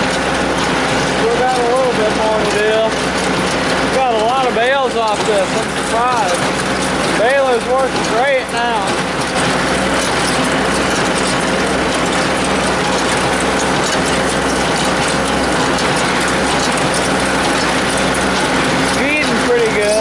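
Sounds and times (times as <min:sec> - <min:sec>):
baler mechanical clatter: 0:00.0 - 0:20.0
tractor engine hum: 0:00.0 - 0:20.0.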